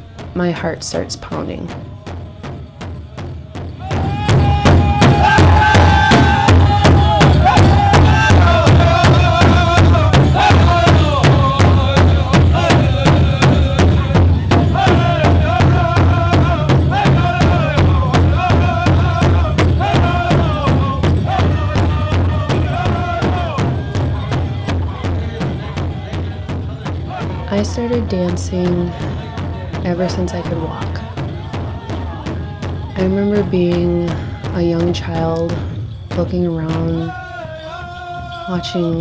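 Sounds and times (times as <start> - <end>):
big hand drum beat: 0.0 - 39.0
high-pitched voices singing: 3.8 - 35.6, 36.3 - 39.0.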